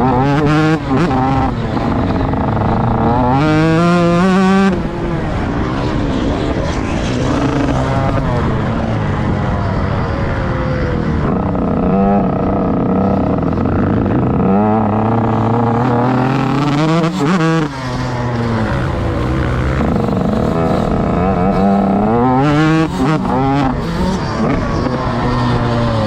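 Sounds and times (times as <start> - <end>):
motocross bike engine revving: 0.0 - 9.1, 10.5 - 26.0.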